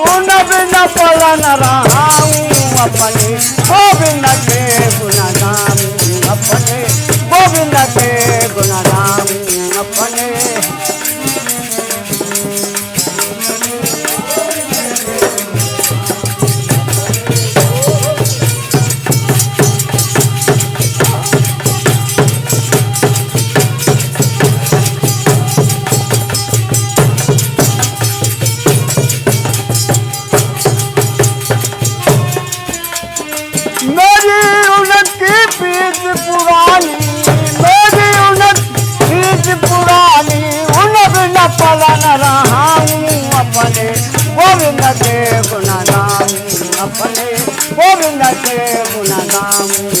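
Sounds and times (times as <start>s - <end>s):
drum beat: 0.0s - 50.0s
jingling percussion: 0.0s - 50.0s.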